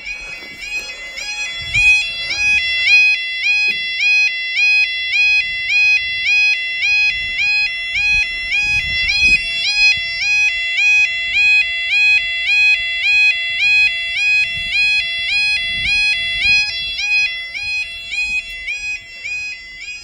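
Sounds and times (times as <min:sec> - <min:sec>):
level crossing alarm warbling: 0:00.0 - 0:20.0.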